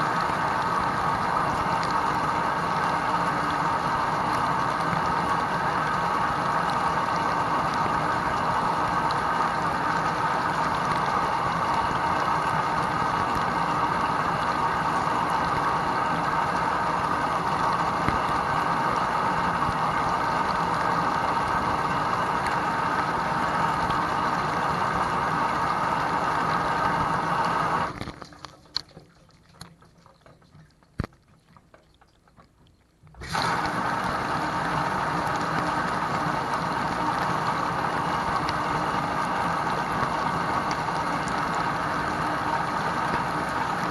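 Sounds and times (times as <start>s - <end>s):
dishwasher pump and water spraying: 0.0s - 28.1s, 33.2s - 43.9s.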